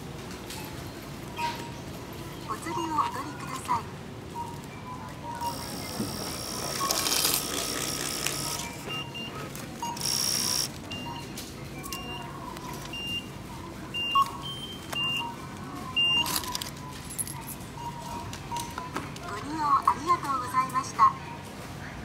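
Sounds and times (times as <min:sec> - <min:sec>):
checkout beeps: 0:00.5 - 0:22.0.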